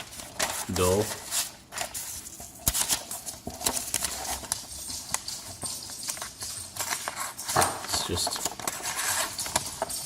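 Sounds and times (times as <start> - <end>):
knife scraping and tearing paper: 0.0 - 9.9.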